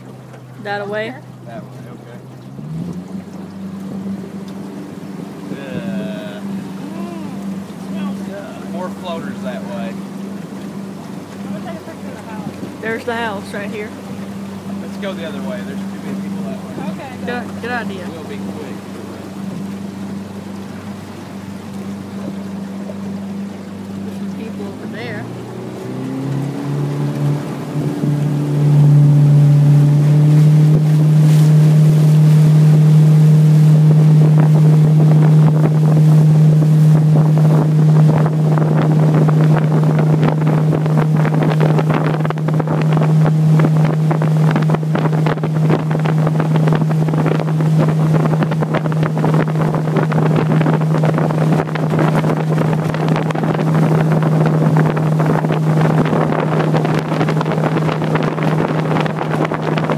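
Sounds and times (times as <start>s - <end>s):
motorboat engine humming: 0.0s - 59.9s
water rushing along hull: 0.0s - 59.9s
wind buffeting microphone: 2.4s - 59.9s.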